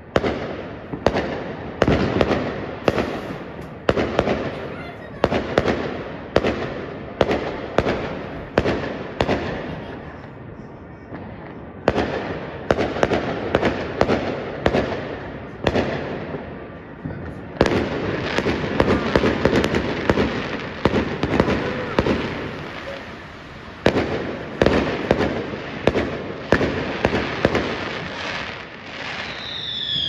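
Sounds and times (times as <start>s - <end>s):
fireworks bursting with bangs: 0.0s - 30.0s.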